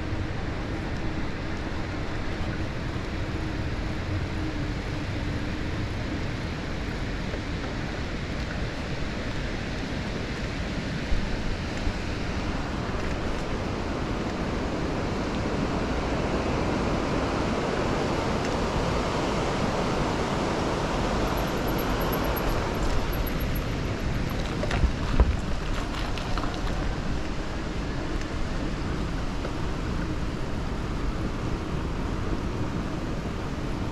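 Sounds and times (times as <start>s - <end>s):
river rushing: 0.0s - 33.9s
wind on microphone: 0.0s - 33.9s.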